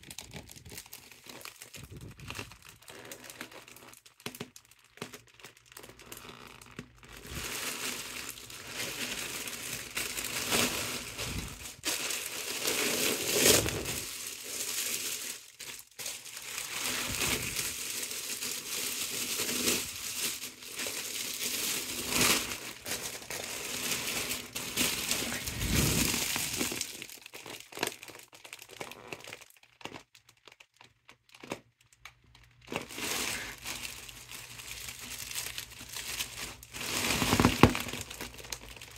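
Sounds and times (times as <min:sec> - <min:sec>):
foil balloon crinkling: 0:00.0 - 0:38.9.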